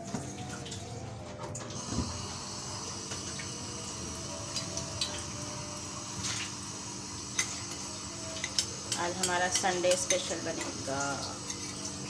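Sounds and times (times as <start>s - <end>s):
gas stove burner hissing: 1.8s - 12.0s.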